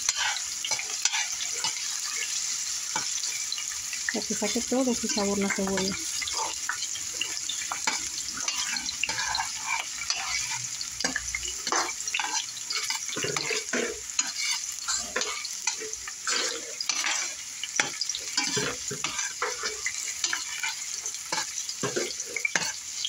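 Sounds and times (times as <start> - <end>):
onions sizzling in hot oil: 0.0 - 23.0
spoon scraping a pan: 0.0 - 23.0.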